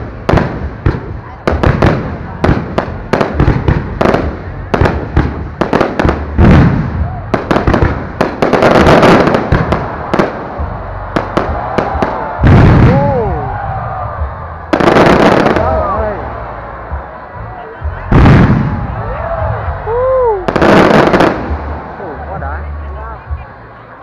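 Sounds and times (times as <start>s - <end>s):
fireworks bursting: 0.0s - 17.3s, 18.0s - 22.2s
fireworks crackling: 0.0s - 17.3s, 18.0s - 22.7s.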